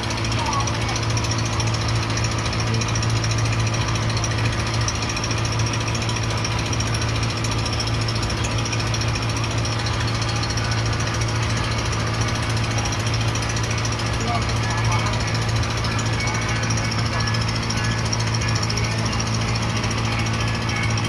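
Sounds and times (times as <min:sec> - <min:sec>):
motorboat engine chugging: 0:00.0 - 0:21.0.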